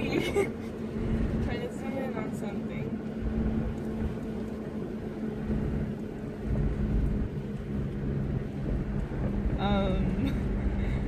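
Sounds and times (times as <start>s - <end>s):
car engine droning: 0.0s - 11.0s
low rumble from rough road: 0.0s - 11.0s.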